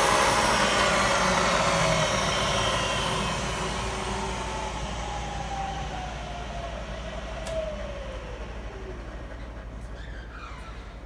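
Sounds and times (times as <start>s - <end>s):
mill motor whine coasting down: 0.0s - 10.9s.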